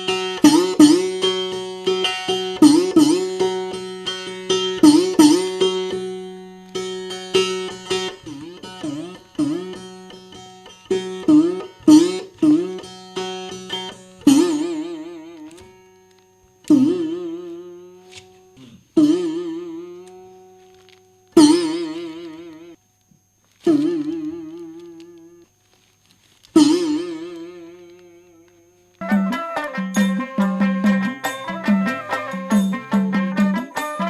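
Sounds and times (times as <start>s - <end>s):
plucked string instrument: 0.0s - 22.8s, 26.6s - 28.1s, 29.0s - 34.0s.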